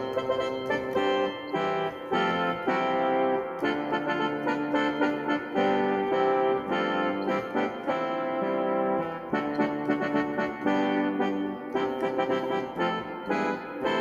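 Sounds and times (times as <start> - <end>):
keyboard playing brass chords: 0.0 - 14.0.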